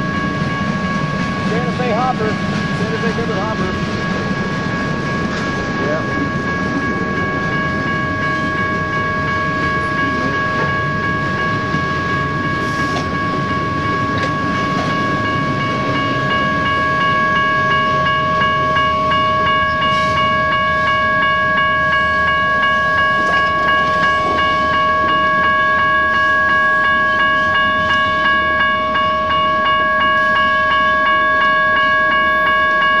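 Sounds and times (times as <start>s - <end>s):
freight train rumbling past: 0.0s - 33.0s
steady high ringing tone: 0.0s - 33.0s.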